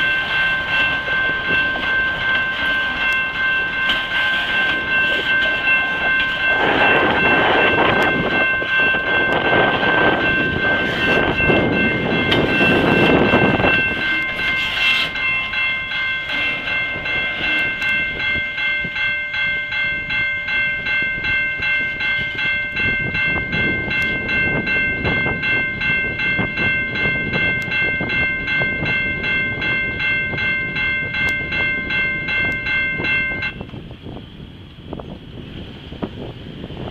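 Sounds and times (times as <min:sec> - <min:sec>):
crossing bells ringing: 0:00.0 - 0:34.2
freight train cars rumbling: 0:00.0 - 0:36.9.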